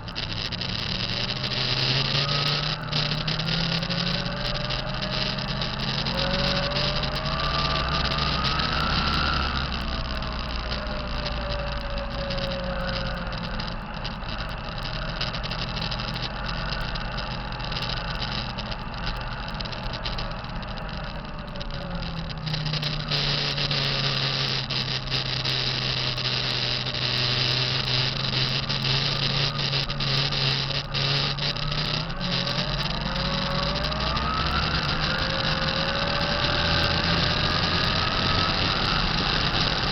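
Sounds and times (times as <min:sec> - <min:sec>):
diesel truck engine running: 0:00.0 - 0:39.9
turbocharger whine: 0:00.0 - 0:39.9.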